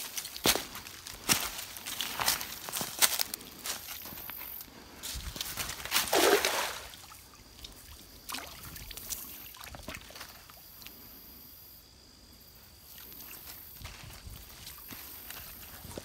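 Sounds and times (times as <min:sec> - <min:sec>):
creek water trickling and dripping: 0:00.0 - 0:11.6, 0:12.4 - 0:16.0.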